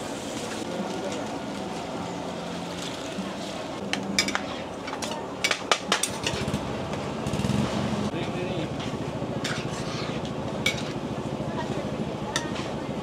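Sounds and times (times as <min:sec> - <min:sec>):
frying noise: 0:00.0 - 0:11.8.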